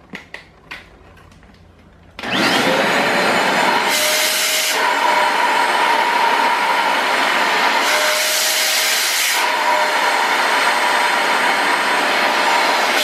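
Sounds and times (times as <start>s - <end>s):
vacuum cleaner motor whine: 2.2s - 13.0s.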